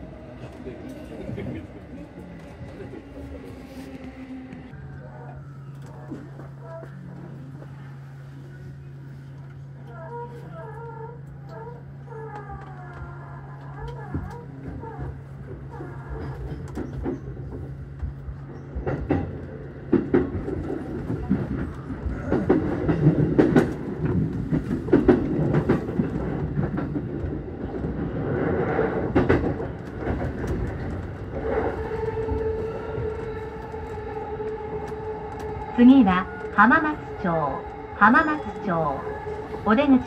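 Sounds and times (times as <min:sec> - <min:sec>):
train wheels rumbling on rails: 0:00.0 - 0:10.2, 0:11.3 - 0:40.0.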